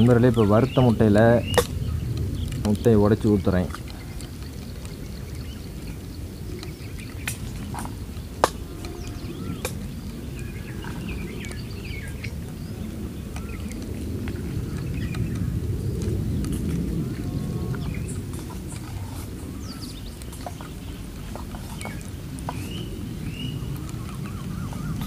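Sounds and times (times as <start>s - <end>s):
birds chirping: 0.0s - 25.0s
steady low rumble: 0.0s - 25.0s.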